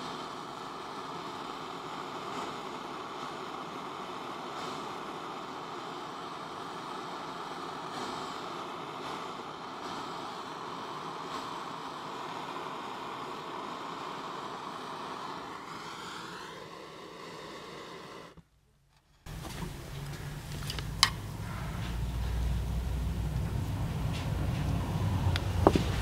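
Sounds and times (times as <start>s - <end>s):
blowtorch hissing: 0.0s - 18.5s, 19.2s - 26.0s.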